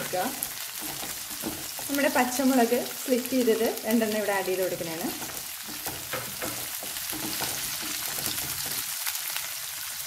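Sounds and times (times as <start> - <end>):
wooden spatula stirring: 0.0 - 9.1
vegetables sizzling in hot oil: 0.0 - 10.0.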